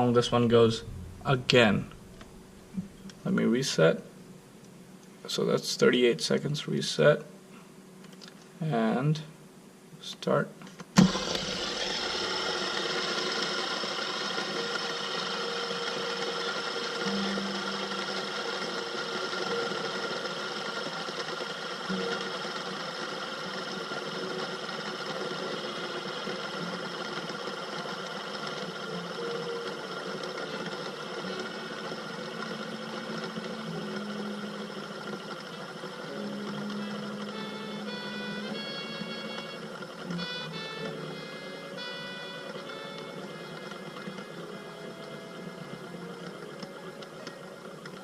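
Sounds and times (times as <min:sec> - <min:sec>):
fidget spinner whirring: 0:00.0 - 0:04.1, 0:10.8 - 0:48.0.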